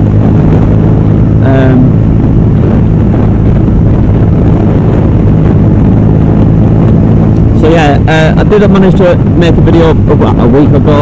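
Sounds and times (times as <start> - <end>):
motorcycle engine cruising: 0.0 - 11.0
wind rushing over microphone: 0.0 - 11.0.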